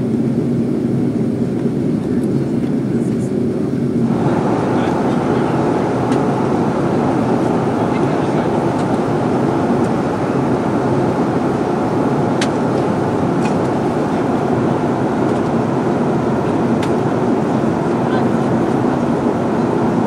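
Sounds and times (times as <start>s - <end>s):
airliner cabin roar: 0.0s - 20.0s.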